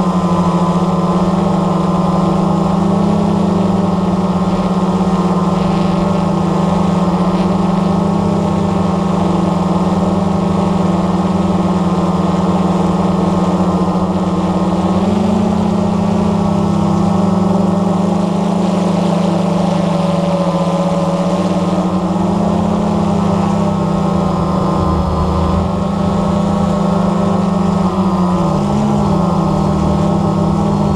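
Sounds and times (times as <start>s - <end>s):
quadcopter motors buzzing: 0.0s - 30.9s.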